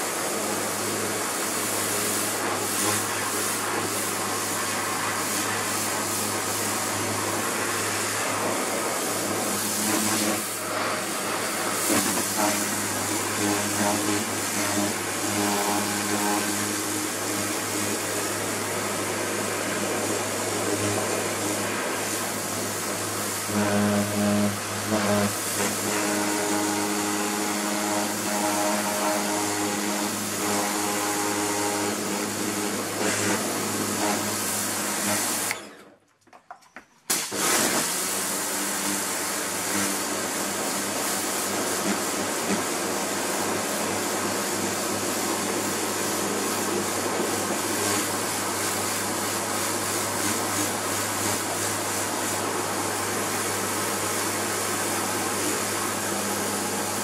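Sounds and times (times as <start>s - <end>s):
high-pressure water jet hissing: 0.0s - 35.6s, 37.1s - 57.0s
pressure washer motor humming: 0.0s - 35.6s, 37.1s - 57.0s.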